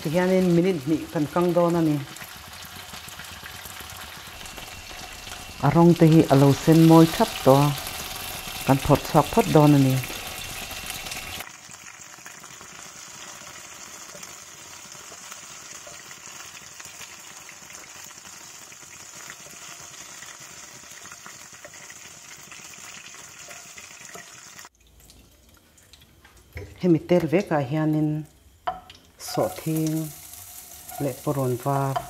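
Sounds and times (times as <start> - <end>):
prawns sizzling in hot oil: 0.0 - 26.5, 28.7 - 32.0.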